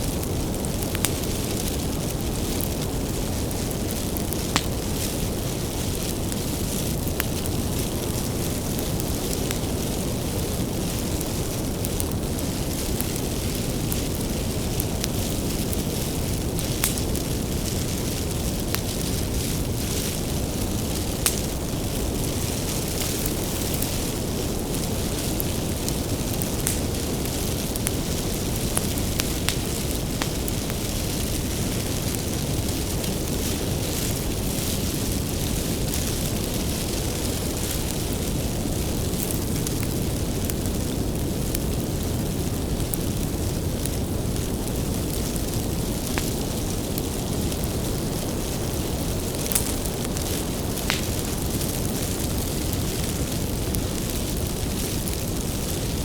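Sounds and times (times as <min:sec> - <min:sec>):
bonfire flames rushing: 0:00.0 - 0:56.0
firewood crackling and popping: 0:00.0 - 0:56.0.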